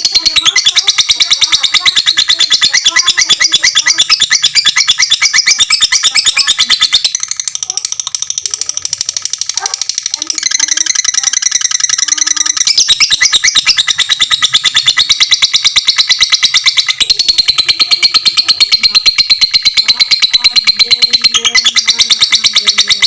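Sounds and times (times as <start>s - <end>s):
lovebird shrill chattering: 0.0s - 23.0s.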